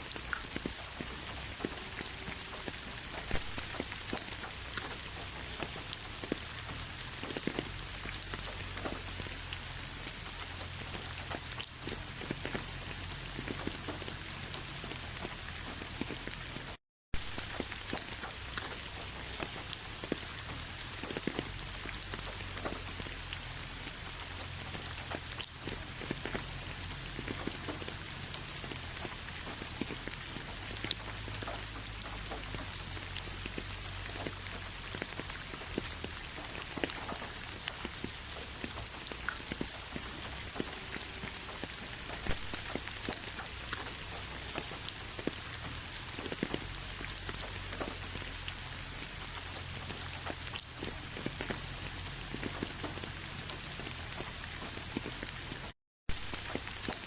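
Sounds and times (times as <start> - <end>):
raindrops ticking: 0.0 - 57.0
steady rain hiss: 0.0 - 57.0.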